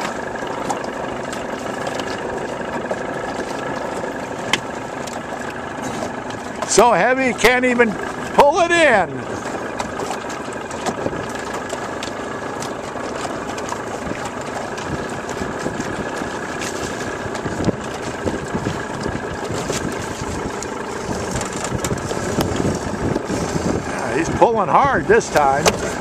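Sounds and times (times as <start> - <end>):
outboard motor idling: 0.0 - 26.0.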